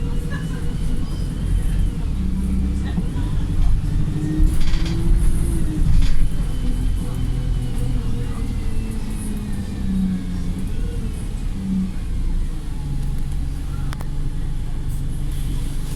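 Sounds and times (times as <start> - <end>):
bus engine running: 0.0 - 15.9.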